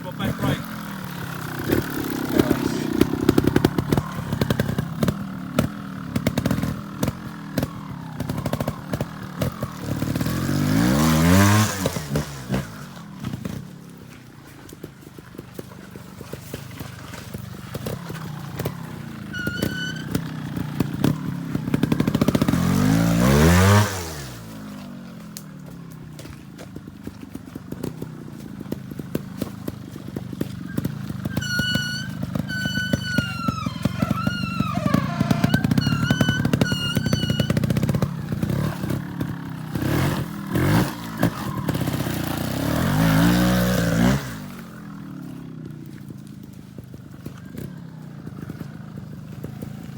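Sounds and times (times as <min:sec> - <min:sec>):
trials motorbike engine blipping: 0:00.0 - 0:49.9.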